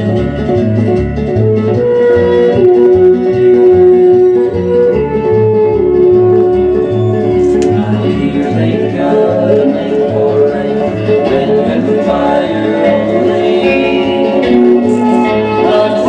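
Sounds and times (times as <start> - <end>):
record music through old speaker: 0.0 - 16.0.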